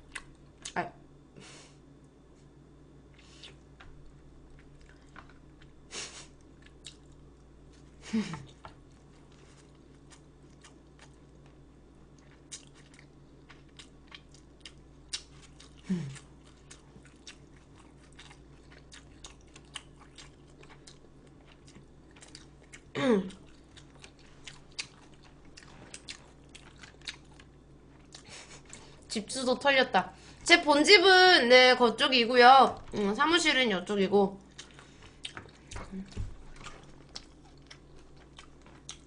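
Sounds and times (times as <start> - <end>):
person chewing food: 0.0 - 0.8, 3.0 - 29.1, 34.4 - 39.0.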